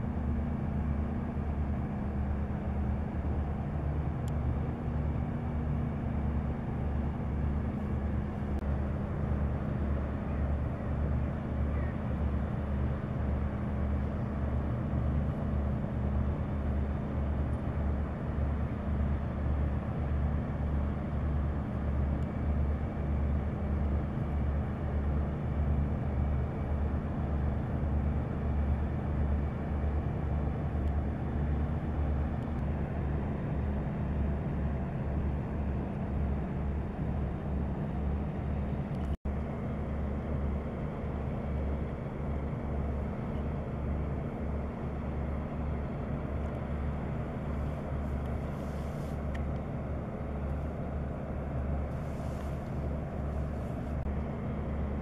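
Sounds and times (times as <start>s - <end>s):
ship diesel engine throbbing: 0.0s - 55.0s.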